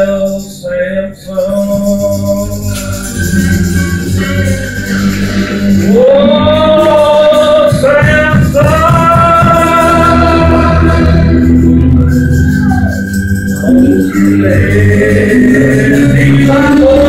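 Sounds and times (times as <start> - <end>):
instrumental accompaniment: 0.0 - 17.0
person singing long notes: 0.0 - 17.0.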